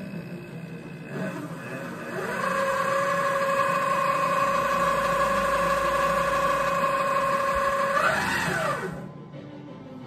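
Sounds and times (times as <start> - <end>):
lathe motor whining: 0.0 - 9.2.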